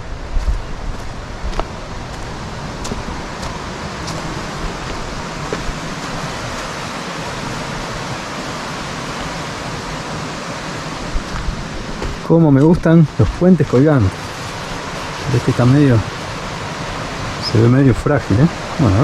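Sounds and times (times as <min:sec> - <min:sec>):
rushing river and waterfall: 0:00.0 - 0:19.0.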